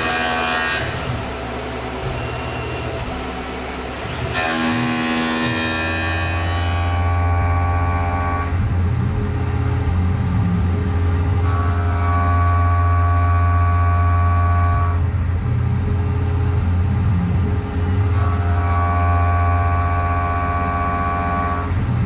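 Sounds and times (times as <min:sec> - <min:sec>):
cutter whine: 0:00.0 - 0:22.0
mill machine low hum: 0:00.0 - 0:22.0.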